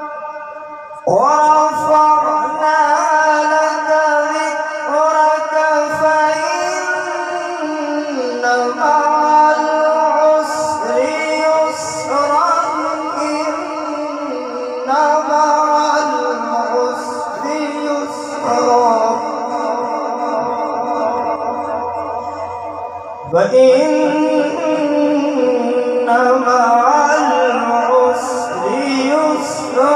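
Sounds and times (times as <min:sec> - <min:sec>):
man reciting melodically over loudspeakers: 0:00.0 - 0:29.9.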